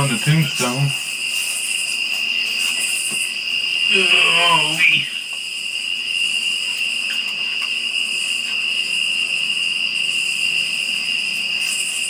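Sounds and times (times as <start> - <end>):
crickets chirping in chorus: 0.0 - 12.0.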